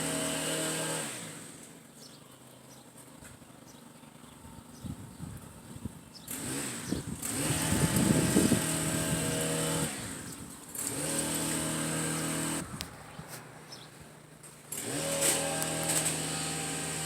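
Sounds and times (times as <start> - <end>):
small engine running: 0.0 - 4.8, 6.0 - 12.8, 14.5 - 17.0.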